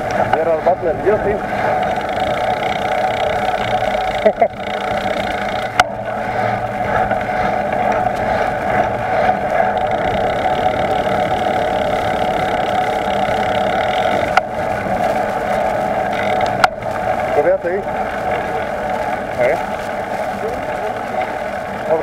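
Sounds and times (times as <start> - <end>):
bicycle tyre noise on road: 0.0 - 22.0.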